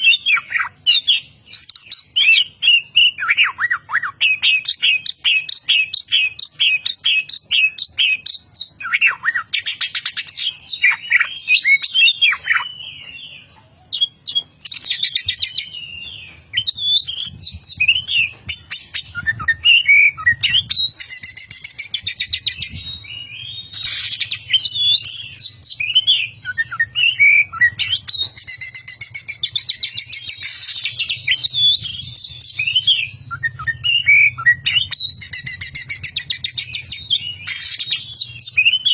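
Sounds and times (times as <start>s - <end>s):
songbird chirps and whistles: 0.0s - 38.9s.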